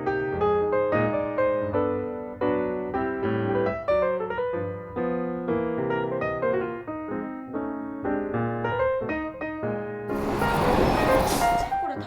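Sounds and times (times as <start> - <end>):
piano chords and melody: 0.0 - 12.0.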